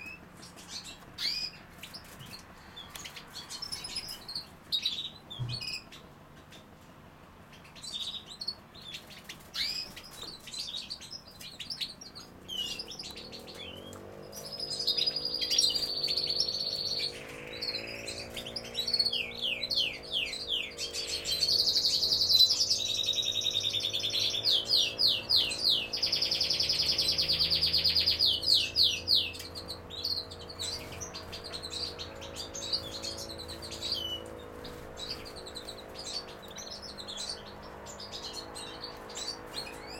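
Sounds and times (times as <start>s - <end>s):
bird twittering song: 0.0s - 39.9s
birds chirping: 0.0s - 39.9s.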